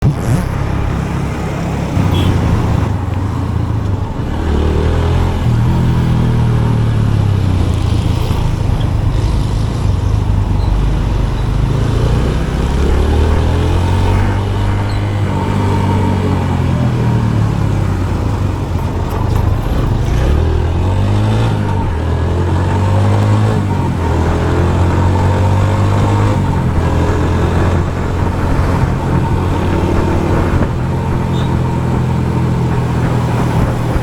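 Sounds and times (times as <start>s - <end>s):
motorcycle engine revving: 0.0s - 34.0s
road and wind noise: 0.0s - 34.0s.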